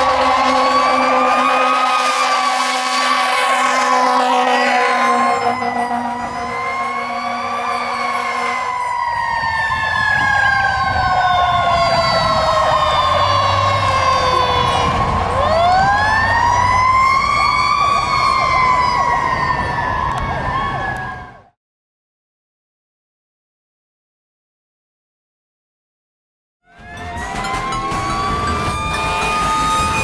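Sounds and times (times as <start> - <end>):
fire engine siren wailing: 0.0 - 21.6, 26.6 - 30.0.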